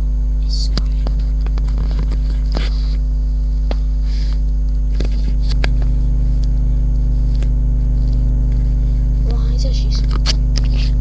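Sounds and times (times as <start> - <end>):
loud electrical hum: 0.0 - 11.0.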